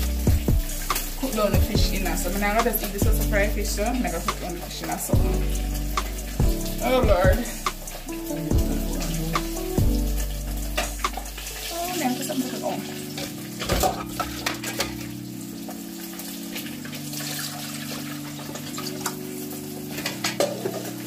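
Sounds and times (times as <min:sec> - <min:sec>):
background music held notes: 0:00.0 - 0:21.0.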